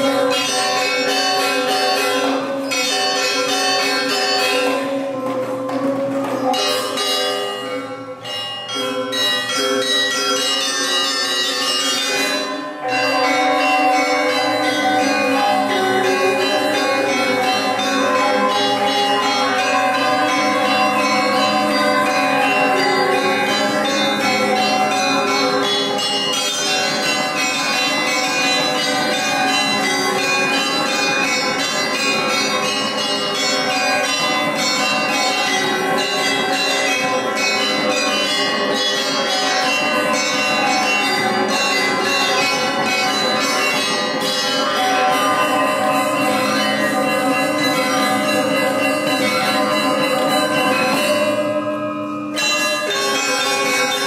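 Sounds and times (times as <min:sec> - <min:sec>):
bell-like metal percussion music: 0:00.0 - 0:54.0.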